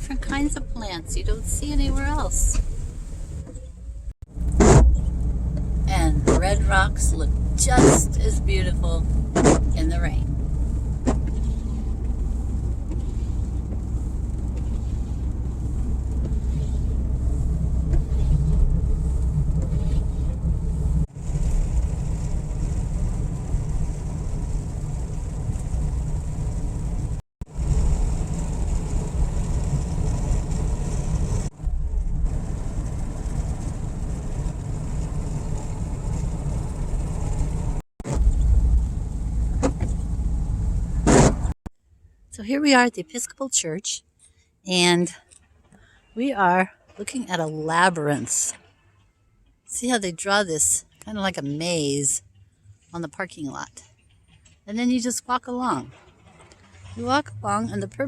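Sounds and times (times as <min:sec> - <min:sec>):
car road and engine rumble: 0:00.0 - 0:42.8, 0:45.2 - 0:58.0.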